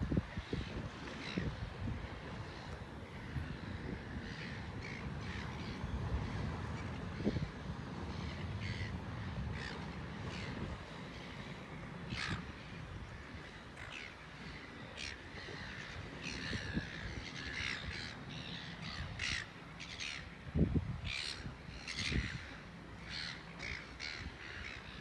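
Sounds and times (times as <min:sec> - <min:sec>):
birds harsh calls: 0:00.4 - 0:20.4, 0:21.0 - 0:25.0.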